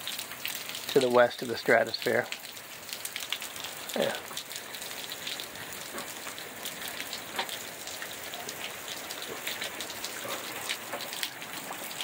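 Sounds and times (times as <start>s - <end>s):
heavy rain on pavement and gravel: 0.0s - 12.0s.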